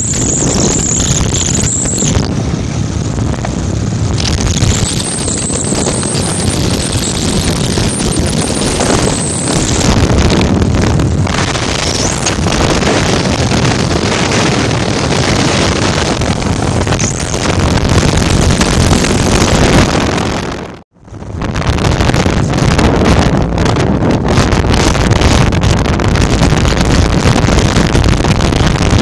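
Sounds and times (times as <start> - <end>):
motorcycle running: 0.0 - 29.0
road noise: 0.0 - 29.0
wind buffeting microphone: 0.0 - 29.0.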